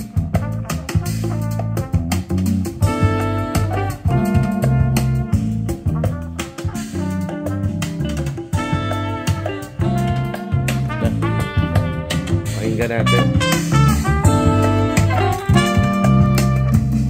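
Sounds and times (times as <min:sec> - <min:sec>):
jazz with horns and drums: 0:00.0 - 0:17.0.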